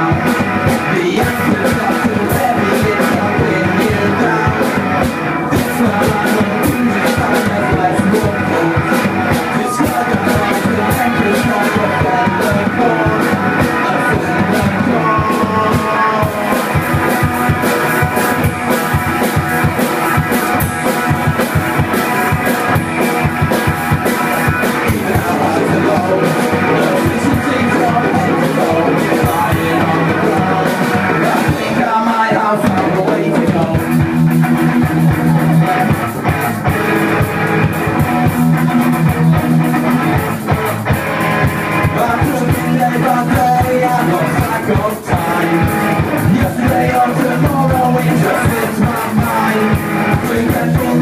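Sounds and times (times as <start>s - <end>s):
drums hitting steadily: 0.0s - 51.0s
rock band playing: 0.0s - 51.0s.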